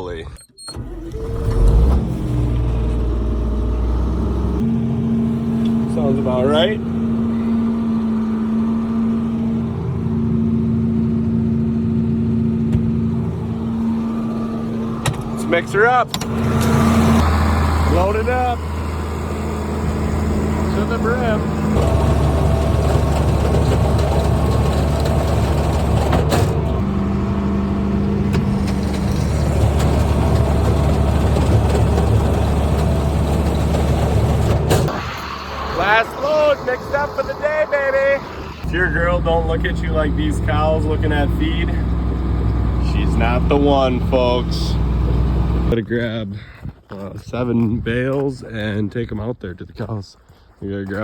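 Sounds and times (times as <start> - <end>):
feed mixer wagon mixing: 0.7 - 45.7
machinery engine running: 0.7 - 45.8.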